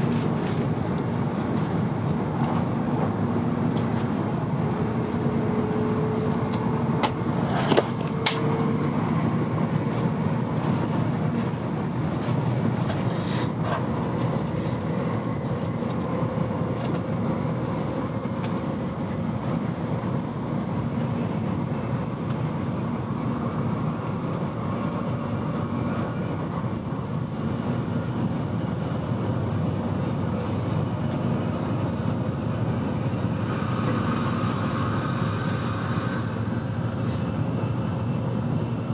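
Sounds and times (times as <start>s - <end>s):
train cabin rumble and rush: 0.0s - 38.9s.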